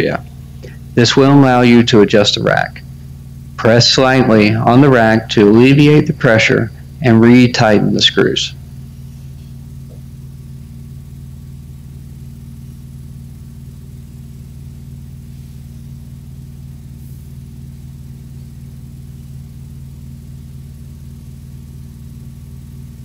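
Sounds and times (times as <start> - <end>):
low droning hum: 0.0 - 23.0.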